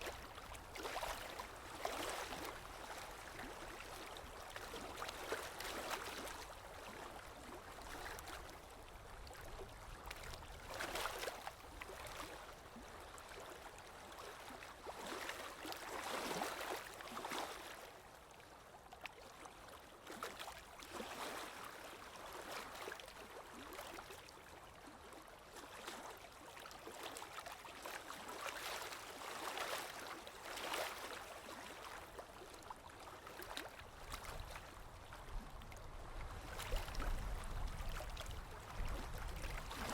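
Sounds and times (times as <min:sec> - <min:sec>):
small water splashes: 0:00.0 - 0:39.9.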